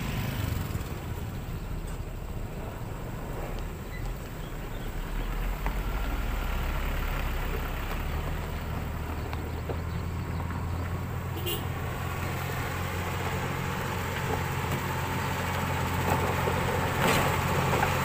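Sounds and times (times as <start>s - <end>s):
diesel engine running: 0.0s - 18.0s
small motorcycles passing: 0.0s - 18.0s.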